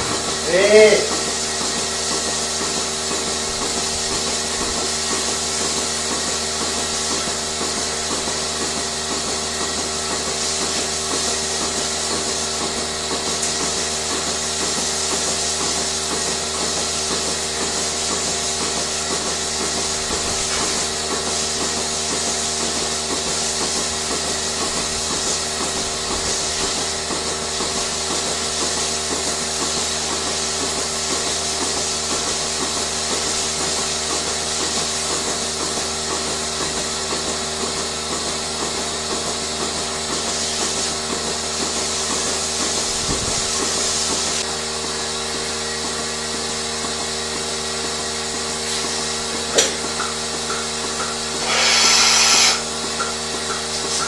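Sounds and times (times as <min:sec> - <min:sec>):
vacuum system humming and hissing: 0:00.0 - 0:54.0.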